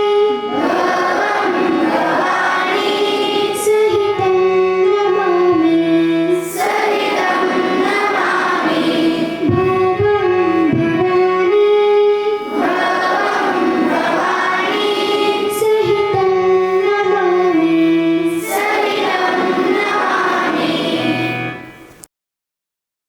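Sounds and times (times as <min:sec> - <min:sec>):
children singing slow song: 0:00.0 - 0:22.0.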